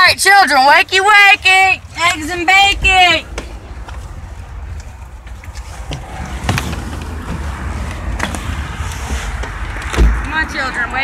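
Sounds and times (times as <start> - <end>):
wind rumble on microphone: 1.4 - 11.0.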